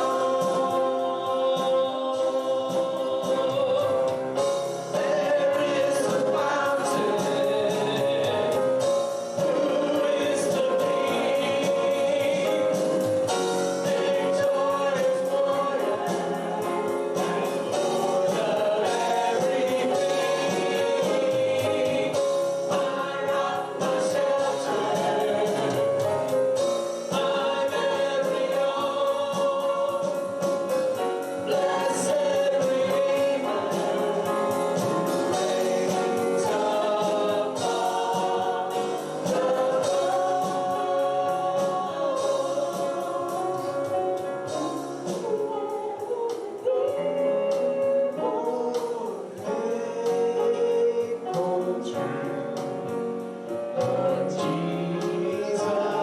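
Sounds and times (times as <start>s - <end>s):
choir singing over a band: 0.0s - 56.0s.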